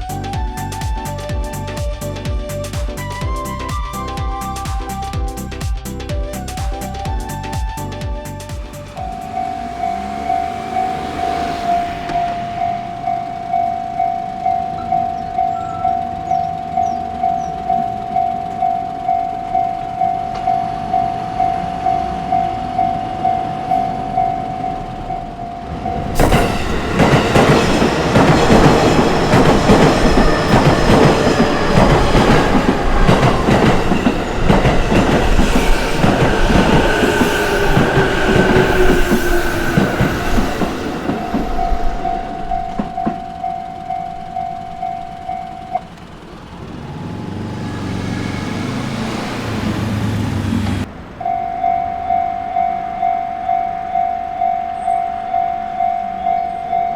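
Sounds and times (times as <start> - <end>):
train rumbling and clattering past: 0.0 - 56.9
level crossing warning bell: 9.0 - 56.9.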